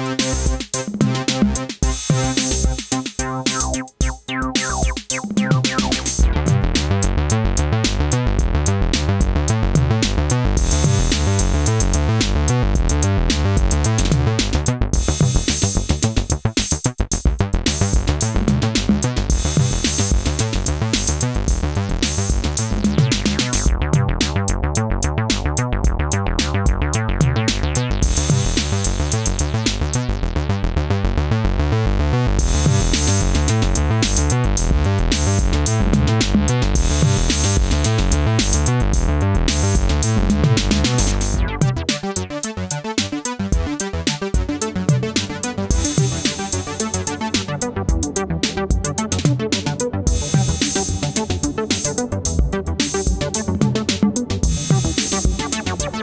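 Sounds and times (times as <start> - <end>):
drum machine beat: 0.0 - 30.0, 32.4 - 56.0
synthesizer bass line: 0.0 - 56.0.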